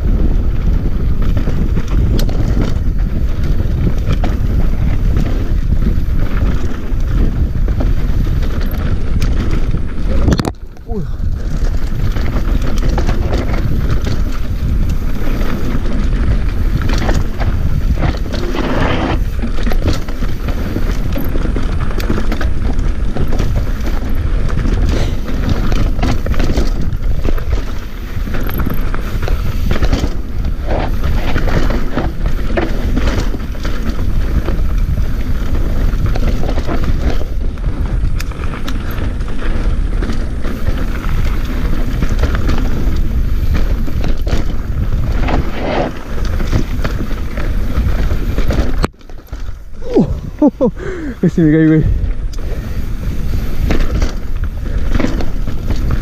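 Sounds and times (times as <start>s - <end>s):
bike clattering over rough ground: 0.0s - 56.0s
wind rumble on microphone: 0.0s - 56.0s.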